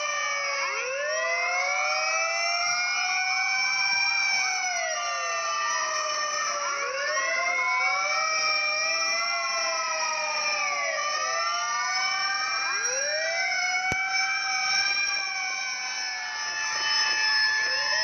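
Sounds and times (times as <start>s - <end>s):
fire truck sirens wailing: 0.0s - 18.0s.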